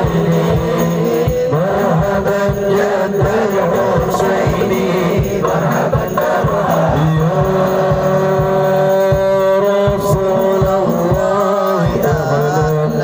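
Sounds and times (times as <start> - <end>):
devotional singing lead voice: 0.0 - 13.0
steady drum beat: 0.0 - 13.0.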